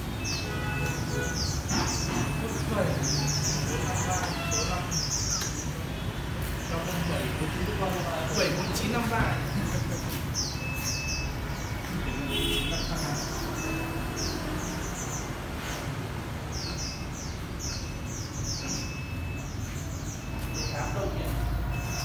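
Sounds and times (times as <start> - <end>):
caged bird chirping: 0.0 - 22.0.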